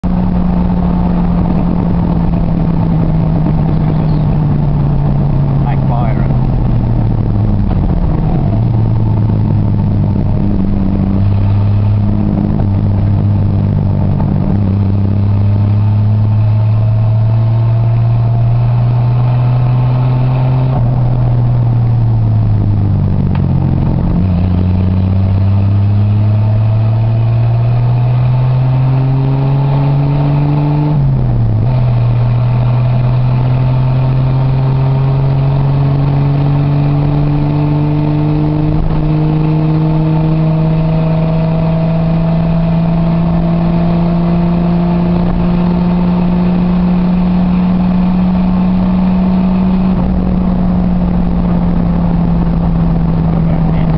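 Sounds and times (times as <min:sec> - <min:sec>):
car engine exhaust note: 0:00.0 - 0:53.9.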